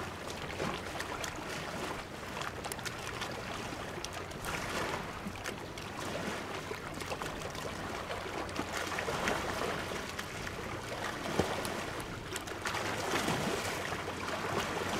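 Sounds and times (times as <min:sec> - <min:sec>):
sea water lapping and splashing: 0:00.0 - 0:14.9.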